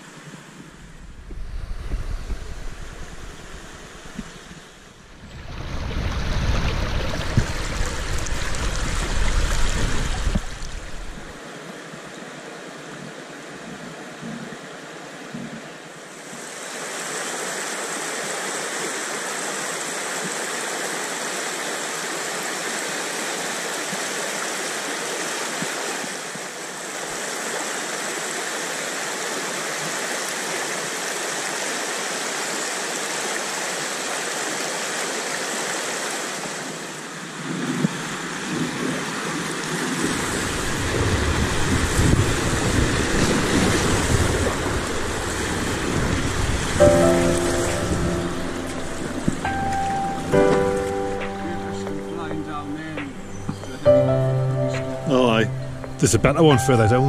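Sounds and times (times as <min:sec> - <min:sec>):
river rapids rushing: 0:02.5 - 0:37.4, 0:38.0 - 0:57.0.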